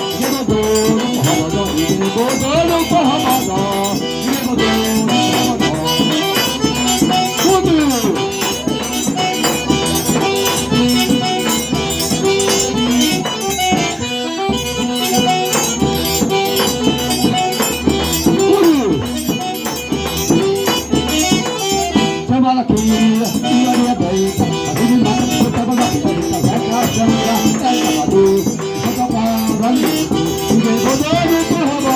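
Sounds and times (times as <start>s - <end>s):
button accordion melody: 0.0s - 31.9s
rattling percussion beat: 0.0s - 31.9s.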